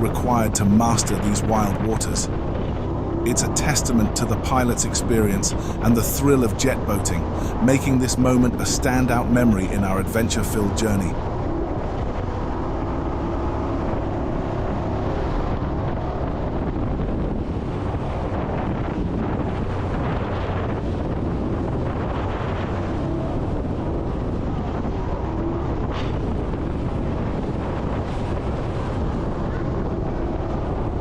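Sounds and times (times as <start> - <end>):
jet boat engine drone: 0.0 - 31.0
wind buffeting microphone: 0.0 - 31.0.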